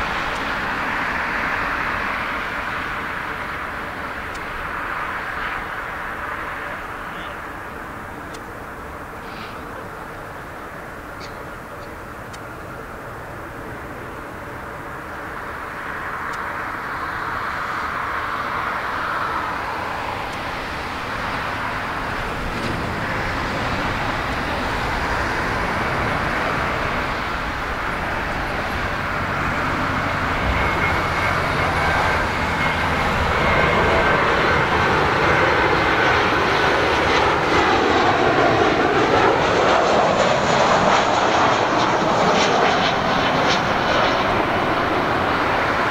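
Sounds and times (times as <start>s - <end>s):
high-pitched engine whine: 0.0s - 45.9s
jet airliner engines: 0.0s - 45.9s.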